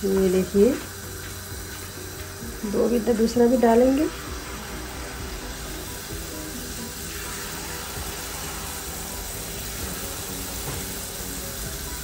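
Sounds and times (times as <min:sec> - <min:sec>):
batter sizzling in hot oil: 0:00.0 - 0:12.0
soft background music: 0:00.0 - 0:12.0.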